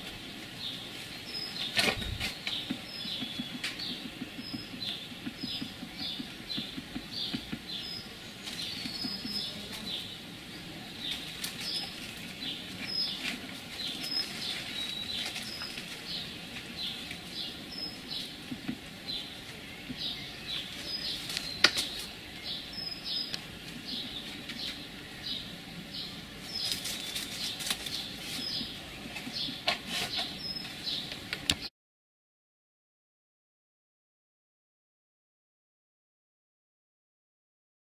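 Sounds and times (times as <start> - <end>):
leaves rustling: 0.0 - 31.6.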